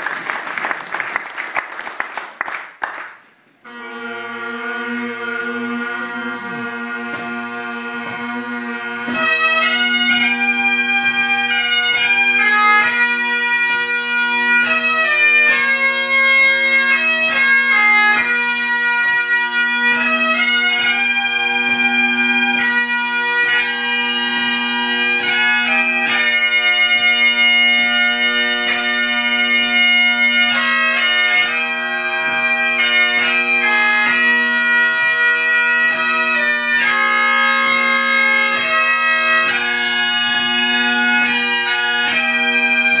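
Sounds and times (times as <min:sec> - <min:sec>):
bagpipe chanter melody: 0:03.6 - 0:43.0
bagpipe drone: 0:03.6 - 0:43.0.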